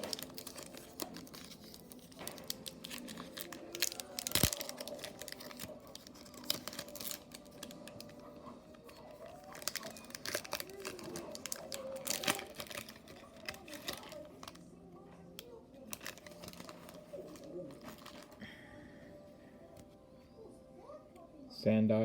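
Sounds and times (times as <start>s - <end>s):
foil wrapper tearing and crinkling: 0.0s - 14.7s, 15.4s - 18.5s.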